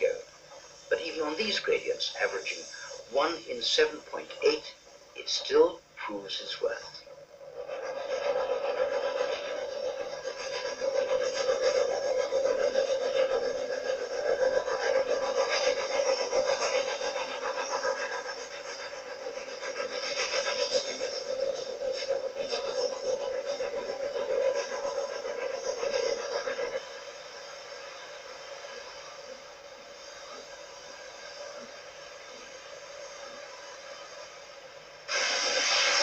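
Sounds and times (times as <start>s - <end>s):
steam locomotive chuffing: 0.0s - 36.0s.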